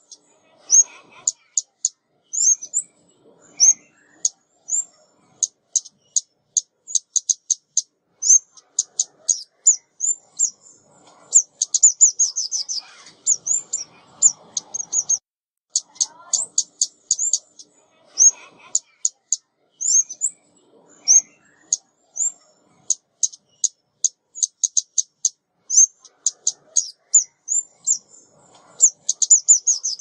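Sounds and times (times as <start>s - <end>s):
small songbird chipping calls: 0.0s - 20.4s, 21.0s - 30.0s.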